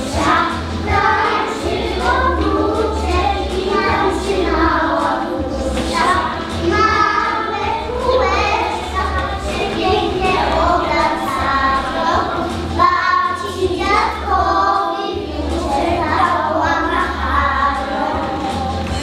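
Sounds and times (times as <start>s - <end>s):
backing track with bass: 0.0s - 19.0s
children singing together: 0.0s - 19.0s.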